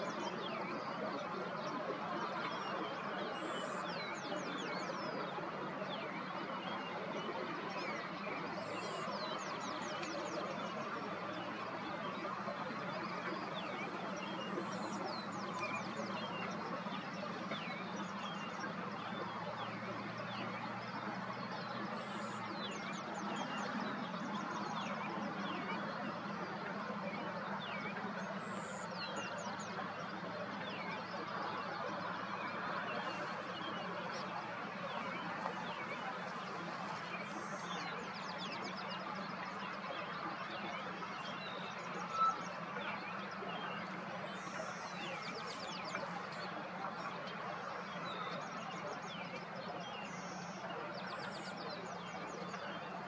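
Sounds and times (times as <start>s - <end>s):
wild birds singing and chirping: 0.0s - 53.0s.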